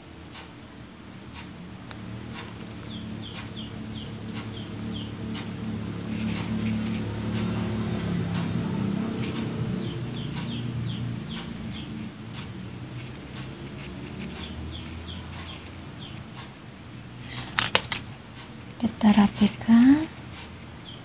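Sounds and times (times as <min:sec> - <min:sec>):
birds chirping: 0:02.2 - 0:21.0.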